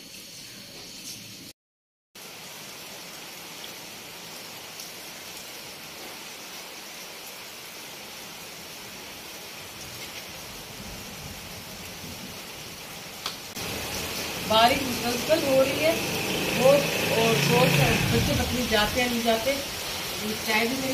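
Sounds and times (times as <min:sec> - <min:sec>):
heavy rain falling: 0:02.2 - 0:20.9.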